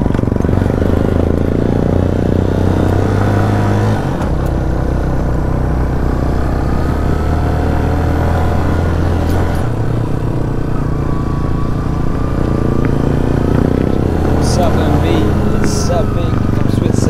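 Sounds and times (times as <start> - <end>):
motorcycle engine climbing: 0.0 - 17.0.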